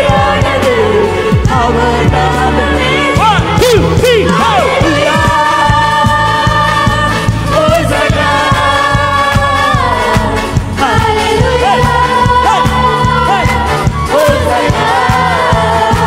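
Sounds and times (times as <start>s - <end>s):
keyboard: 0.0s - 16.0s
singers holding long notes: 0.0s - 16.0s
steady drum beat: 0.0s - 16.0s.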